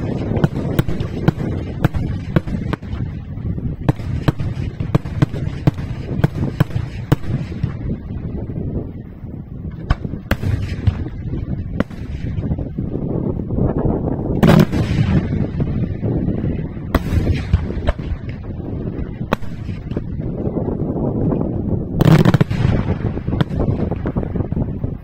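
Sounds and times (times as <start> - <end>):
firework bangs: 0.0 - 8.6, 9.6 - 13.3, 14.2 - 20.9, 21.9 - 25.0
continuous low rumble: 0.0 - 25.0.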